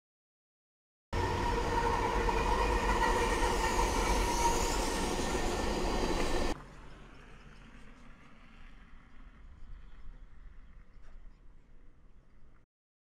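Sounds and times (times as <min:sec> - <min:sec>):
diesel locomotive engines and rail noise: 0:01.2 - 0:12.0
faint outdoor background: 0:01.2 - 0:12.7.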